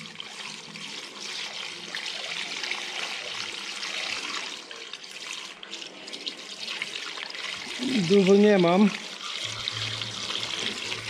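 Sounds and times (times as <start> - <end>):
fuel pouring into tank: 0.0 - 11.0.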